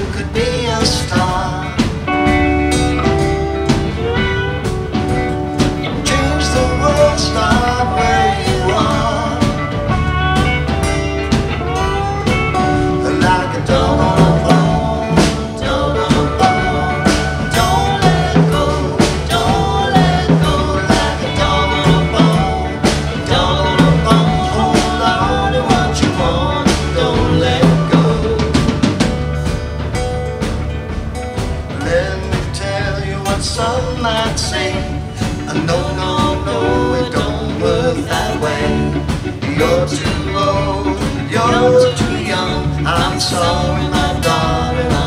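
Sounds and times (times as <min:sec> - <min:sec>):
bass guitar: 0:00.0 - 0:45.0
drum kit steady beat: 0:00.0 - 0:45.0
electric guitars: 0:00.0 - 0:45.0.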